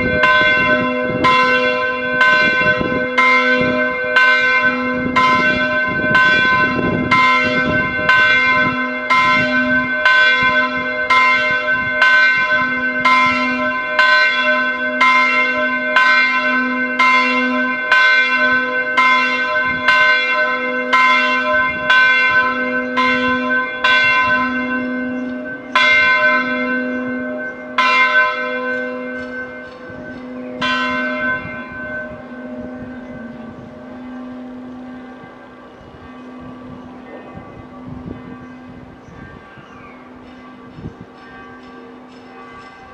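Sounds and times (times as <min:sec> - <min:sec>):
church bell ringing: 0:00.0 - 0:42.9.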